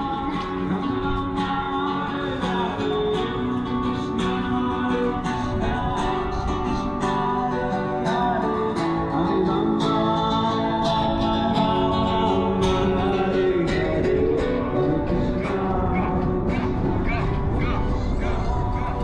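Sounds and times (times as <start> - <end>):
acoustic guitar playing: 0.0 - 19.0
person singing: 0.0 - 19.0.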